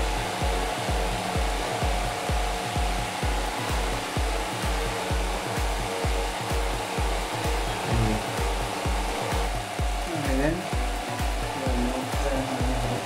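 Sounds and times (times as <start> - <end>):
background music with beat: 0.0 - 13.0
electric fan whooshing: 0.0 - 13.0.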